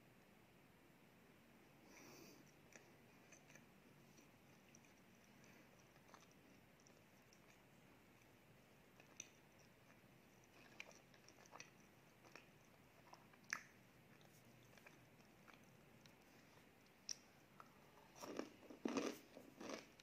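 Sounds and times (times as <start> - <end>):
person chewing food: 2.4 - 20.0.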